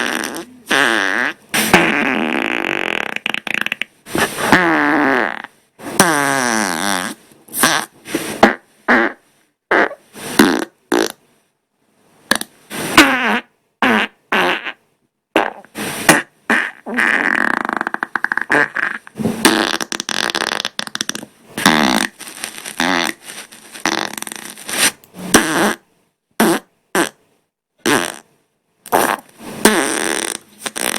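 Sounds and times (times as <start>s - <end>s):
farts: 0.0s - 11.2s, 12.3s - 27.2s, 27.8s - 30.9s.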